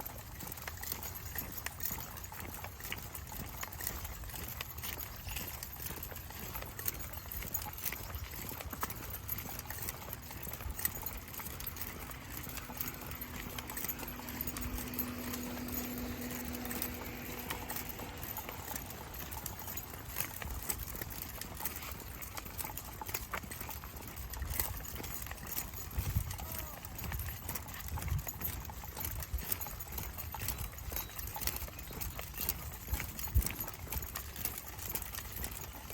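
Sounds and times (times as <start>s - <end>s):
footsteps on a trail: 0.0s - 35.9s
light clicks and ticks: 0.0s - 35.9s.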